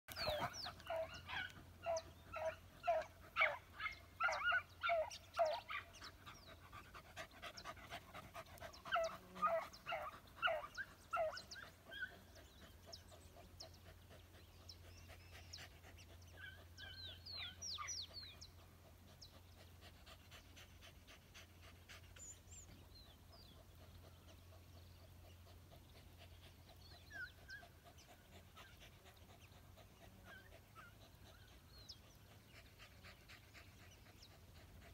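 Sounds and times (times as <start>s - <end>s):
hounds baying: 0.1s - 34.9s.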